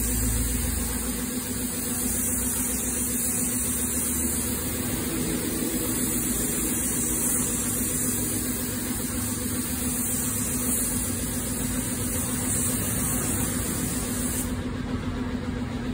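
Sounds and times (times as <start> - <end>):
spray gun hissing: 0.0 - 14.6.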